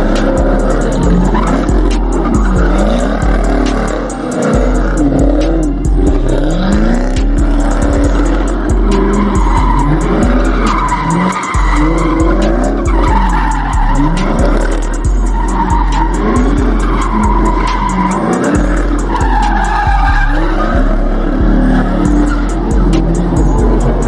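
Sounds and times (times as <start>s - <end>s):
car tires squealing: 0.0s - 24.0s
loud hip-hop music: 0.0s - 24.0s.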